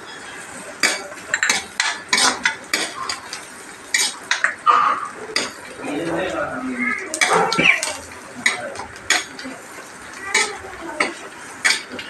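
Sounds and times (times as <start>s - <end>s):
onions frying in oil: 0.0s - 12.0s.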